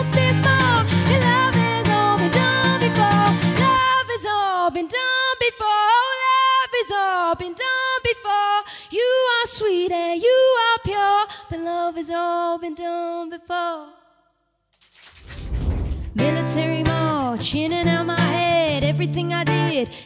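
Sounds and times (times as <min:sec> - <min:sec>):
woman singing unaccompanied: 0:00.0 - 0:14.0, 0:16.2 - 0:20.0.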